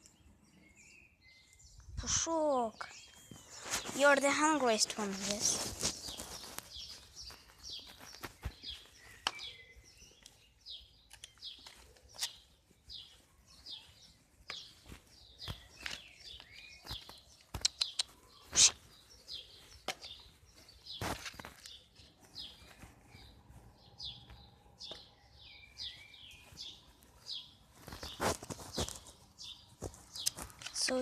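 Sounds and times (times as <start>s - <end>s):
small bird chirping: 0.0s - 31.0s.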